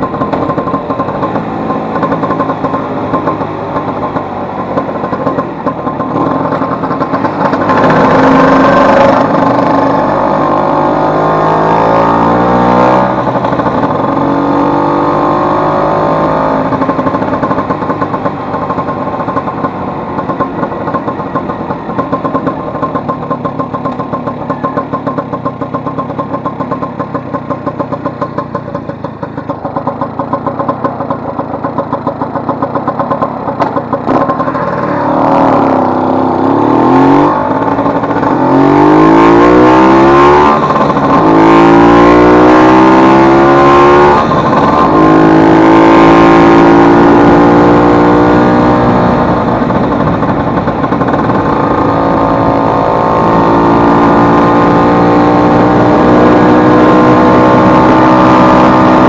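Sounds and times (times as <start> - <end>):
scooter engine idling and revving: 0.0 - 59.0.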